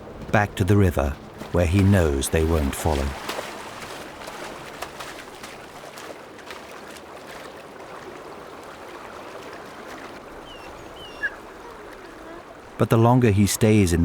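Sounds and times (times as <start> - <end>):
elk wading splashes: 0.0 - 14.0
river water flowing: 0.0 - 14.0.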